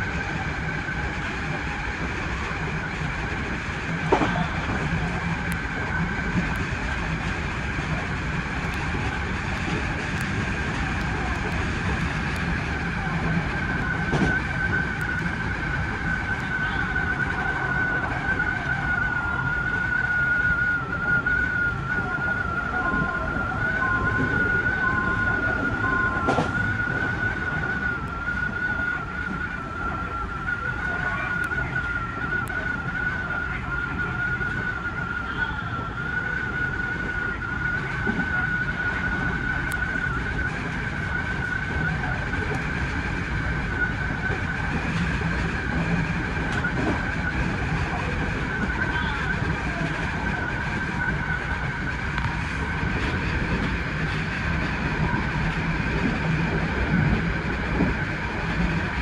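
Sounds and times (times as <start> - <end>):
electric train whine: 0.0 - 59.0
train running gear rumble: 0.0 - 59.0.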